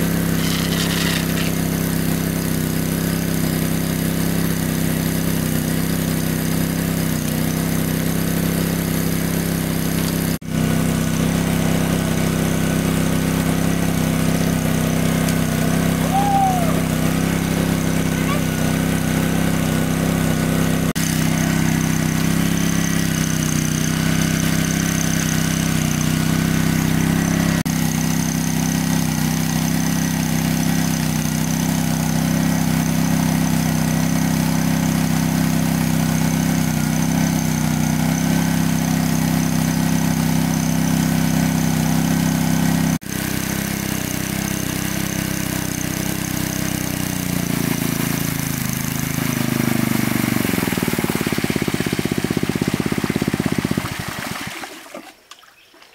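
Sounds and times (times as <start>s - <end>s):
water pump engine humming: 0.0s - 55.9s.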